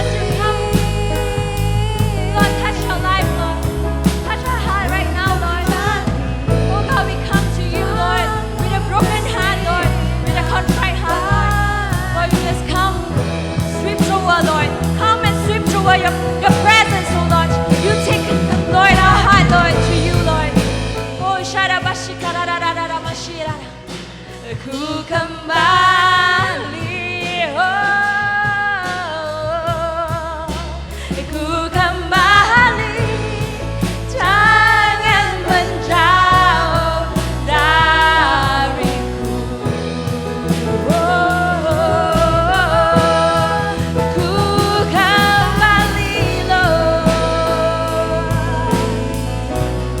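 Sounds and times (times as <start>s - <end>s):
band playing: 0.0s - 24.9s, 29.0s - 50.0s
congregation singing gospel: 0.0s - 29.6s, 30.8s - 50.0s
sustained bass notes: 0.0s - 50.0s.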